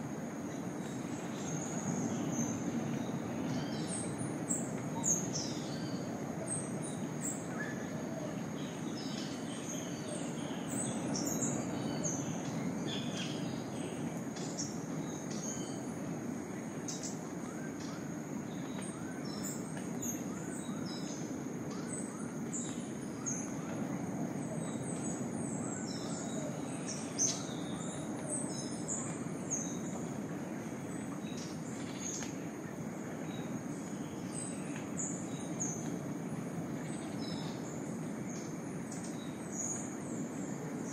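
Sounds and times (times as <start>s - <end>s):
insect drone: 0.0s - 40.9s
low background hiss: 0.0s - 40.9s.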